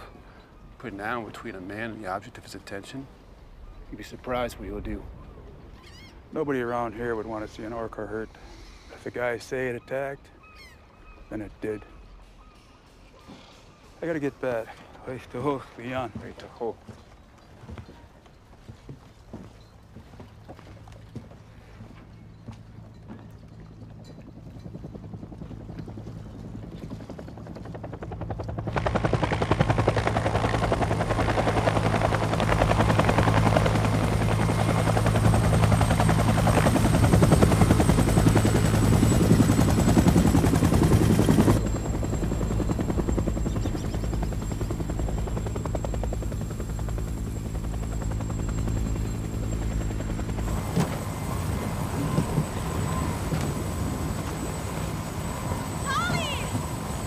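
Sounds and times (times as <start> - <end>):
helicopter engine and rotor drone: 0.0 - 18.4, 20.8 - 57.0.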